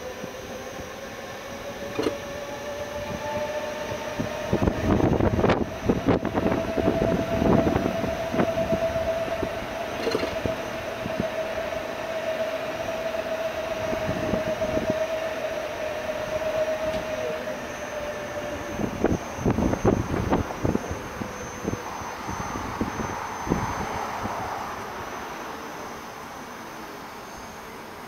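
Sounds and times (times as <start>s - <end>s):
electric motor whine: 0.0s - 25.8s.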